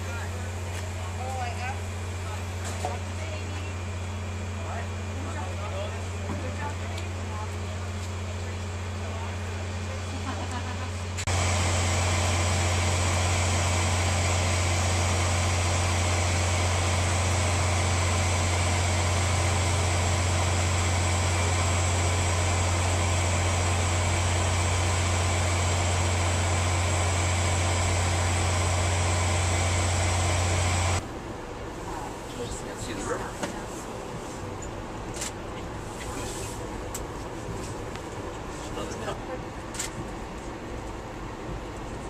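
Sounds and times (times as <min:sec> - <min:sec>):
diesel locomotive engine humming: 0:00.0 - 0:42.0.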